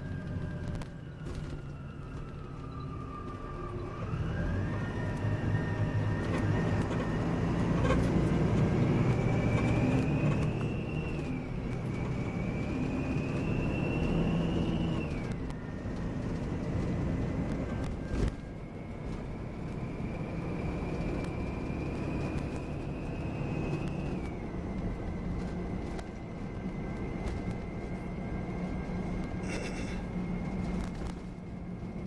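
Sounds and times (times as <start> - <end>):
diesel coach engine accelerating: 0.0 - 32.0
high engine whine: 0.0 - 32.0.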